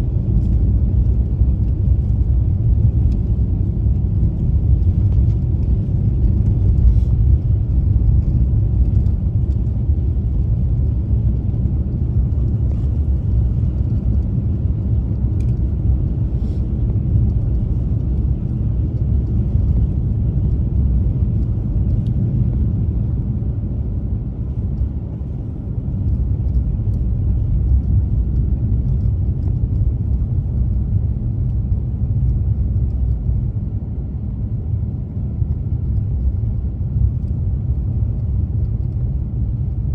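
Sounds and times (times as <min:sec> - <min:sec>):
car driving on snowy road: 0:00.0 - 0:39.9.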